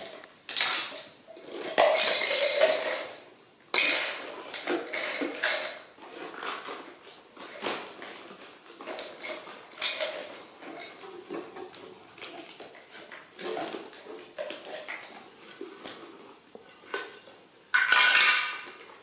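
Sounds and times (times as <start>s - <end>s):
plastic toys clattering on tiles: 0.0s - 19.0s.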